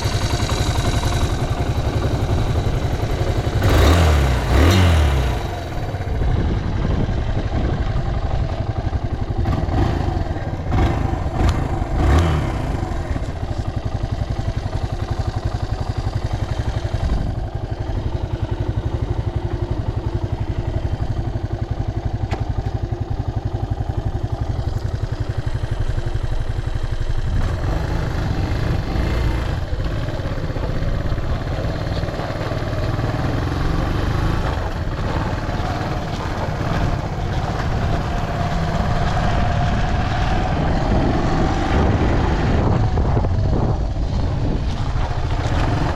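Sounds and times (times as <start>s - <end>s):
motorcycle engine revving and idling: 0.0s - 45.9s.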